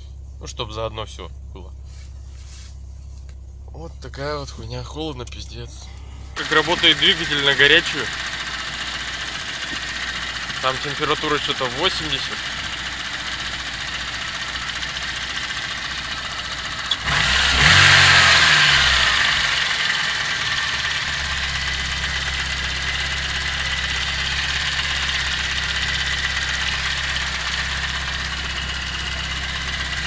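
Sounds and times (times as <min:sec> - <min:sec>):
engine running with tappet clatter: 0:00.0 - 0:30.0.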